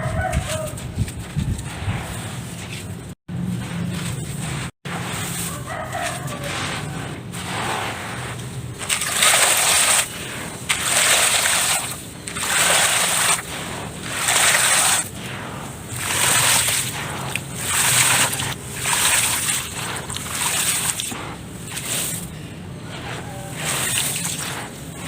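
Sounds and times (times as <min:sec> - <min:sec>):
wet dirt sloshing by hand: 0:00.0 - 0:25.0.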